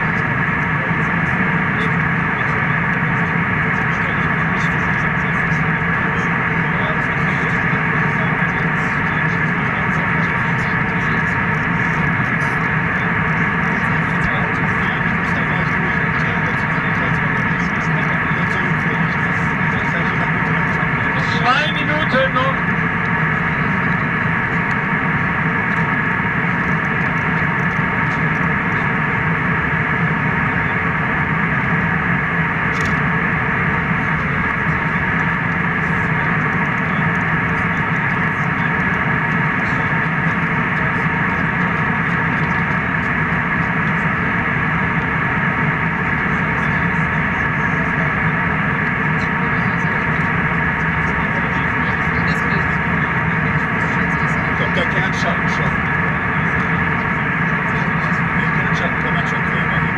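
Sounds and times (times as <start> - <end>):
constant low hum: 0.0 - 59.9
steady tones: 0.0 - 59.9.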